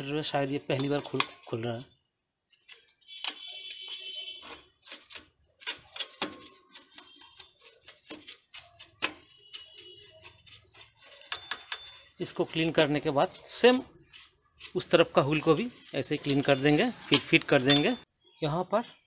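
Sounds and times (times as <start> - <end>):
paintbrush scrubbing metal: 2.5 - 18.0.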